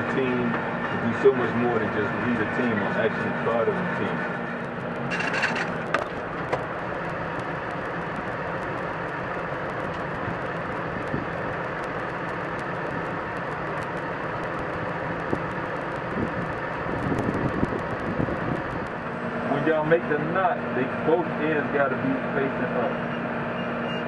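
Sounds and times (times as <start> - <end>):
tractor running inside cab: 0.0 - 24.0.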